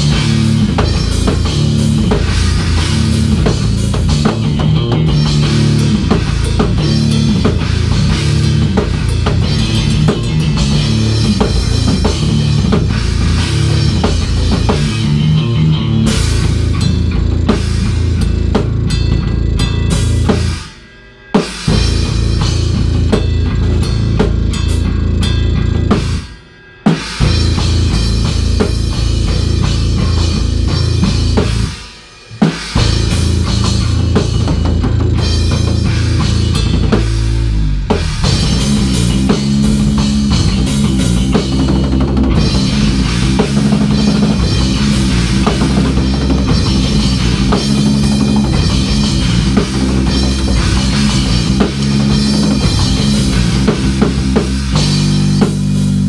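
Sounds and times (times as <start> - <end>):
drum kit with cymbals: 0.0 - 56.0
electric guitar: 0.0 - 56.0
rock band playing: 0.0 - 56.0.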